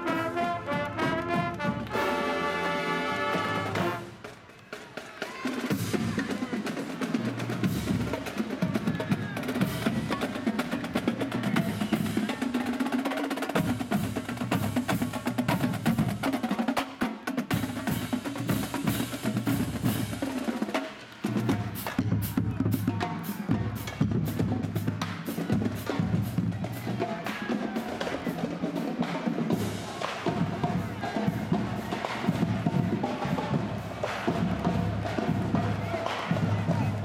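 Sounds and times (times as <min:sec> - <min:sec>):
snare drum rolls: 0:00.0 - 0:37.0.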